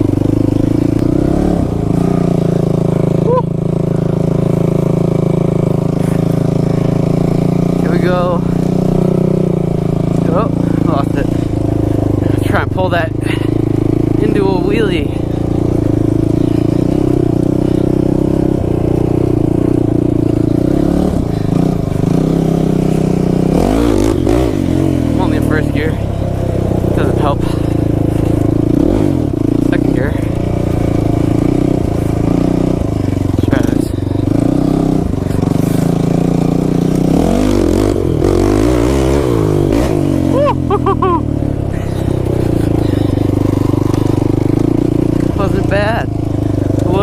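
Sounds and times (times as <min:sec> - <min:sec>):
quad engine running: 0:00.0 - 0:47.0.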